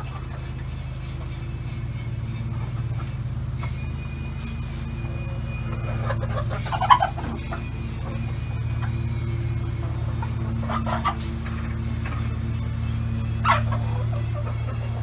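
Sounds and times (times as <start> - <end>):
chickens clucking: 0.0 - 15.0
steady low hum: 0.0 - 15.0.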